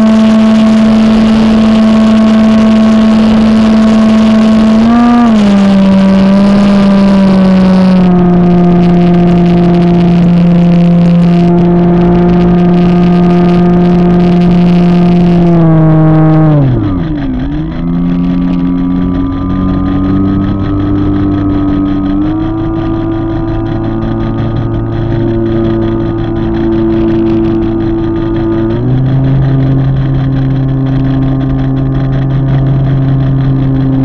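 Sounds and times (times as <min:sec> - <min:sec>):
model airplane motor drone: 0:00.0 - 0:34.0
wind rush: 0:00.0 - 0:34.0.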